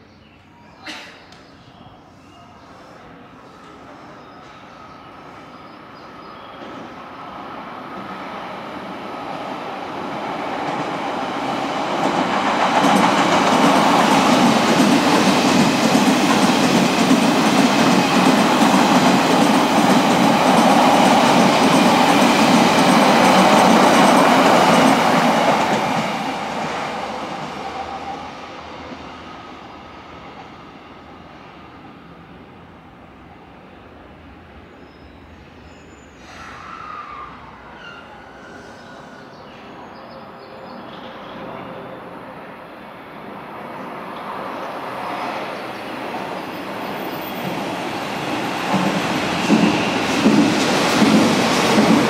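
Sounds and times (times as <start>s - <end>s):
train wheel and rail noise: 0.0s - 52.0s.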